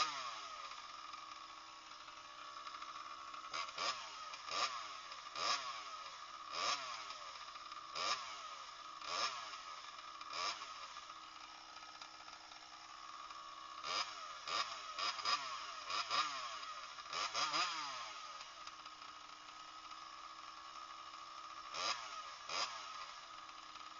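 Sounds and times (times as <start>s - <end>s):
two-stroke engine revving: 0.0s - 23.9s.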